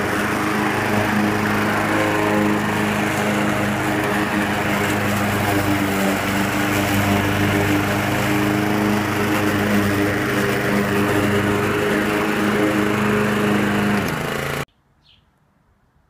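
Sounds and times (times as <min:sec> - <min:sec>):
lawn mower engine running: 0:00.0 - 0:14.7.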